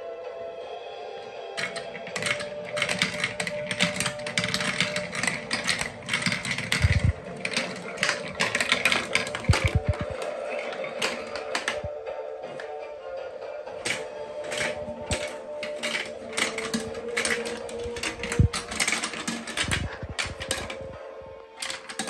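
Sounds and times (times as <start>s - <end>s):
background music: 0.0s - 22.0s
plastic marbles clicking on track: 1.6s - 12.0s, 13.8s - 21.0s, 21.6s - 22.0s.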